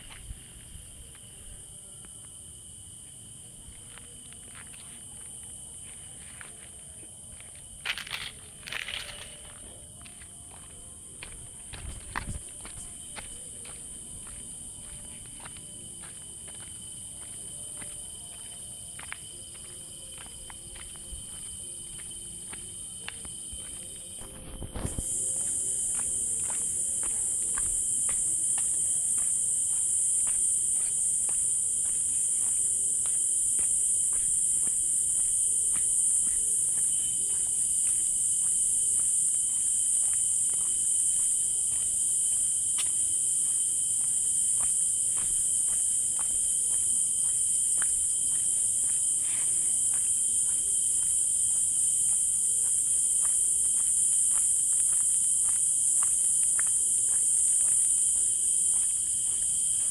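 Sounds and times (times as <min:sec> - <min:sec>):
insects chorus: 0:00.0 - 0:59.9.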